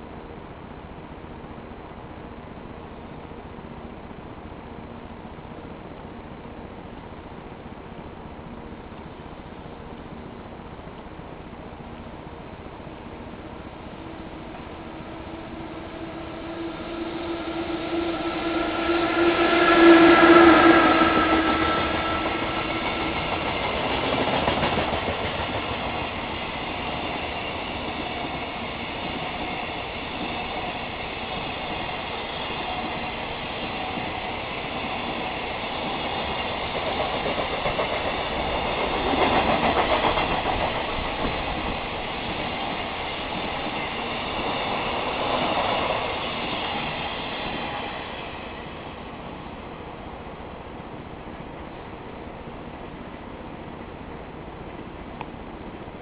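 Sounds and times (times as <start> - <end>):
electric locomotive passing: 0.0 - 56.0.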